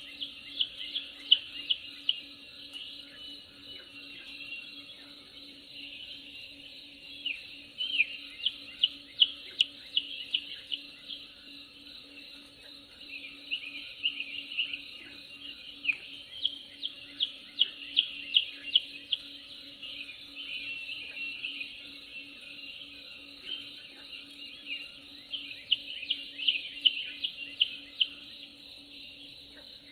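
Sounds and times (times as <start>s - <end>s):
songbirds chirping: 0.0s - 29.9s
steady low hum: 0.0s - 29.9s.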